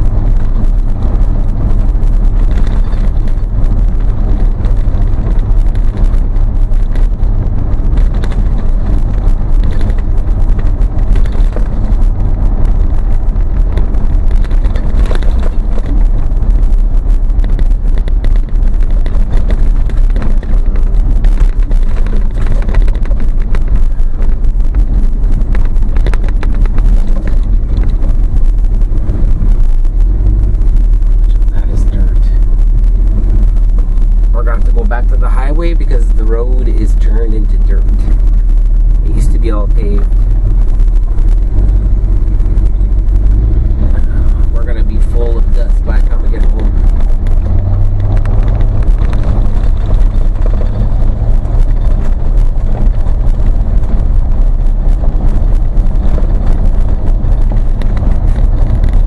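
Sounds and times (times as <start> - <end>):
rattles and knocks in cab: 0.0 - 59.0
road noise: 0.0 - 59.0
vehicle engine rumble: 0.0 - 59.0.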